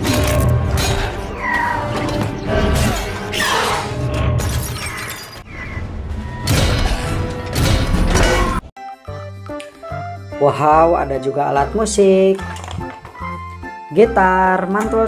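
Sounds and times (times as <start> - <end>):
action film music: 0.0 - 15.0.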